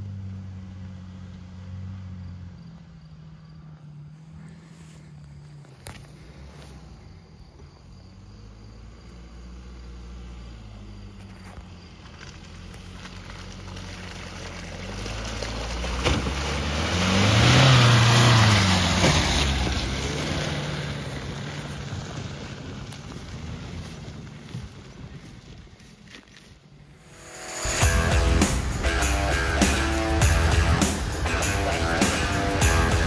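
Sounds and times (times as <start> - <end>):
car engine passing by: 0.0 - 24.9, 27.0 - 33.0
tyre noise on wet track: 0.0 - 33.0.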